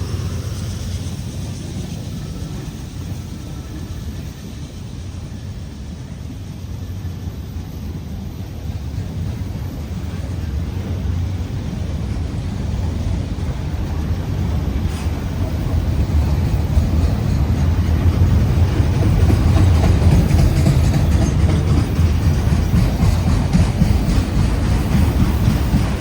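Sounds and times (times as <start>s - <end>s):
diesel locomotives rumbling: 0.0s - 26.0s.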